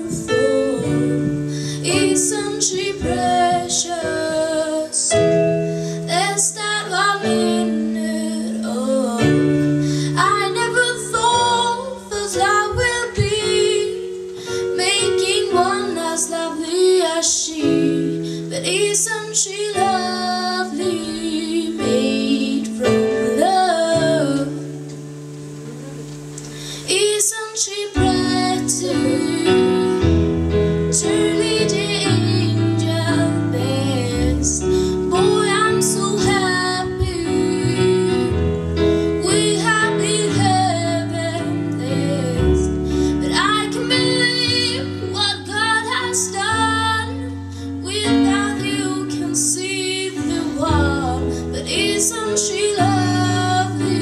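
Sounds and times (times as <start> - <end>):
woman singing into microphone: 0.0 - 25.1, 25.7 - 54.0
instrumental accompaniment: 0.0 - 54.0.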